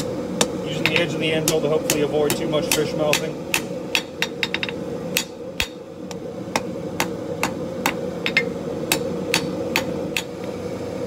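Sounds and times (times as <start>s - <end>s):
hammer striking hot steel on anvil: 0.0s - 10.4s
steady hum: 0.0s - 11.0s.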